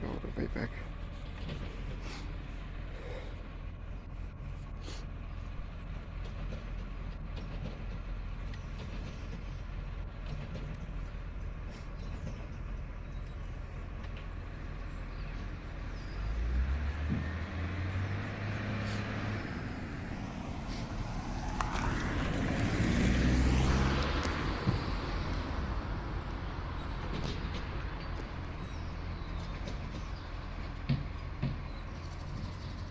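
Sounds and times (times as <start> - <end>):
garbage truck diesel engine: 0.0 - 32.9.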